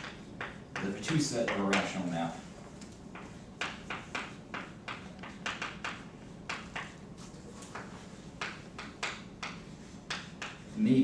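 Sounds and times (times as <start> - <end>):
chalk tapping on blackboard: 0.0 - 11.0.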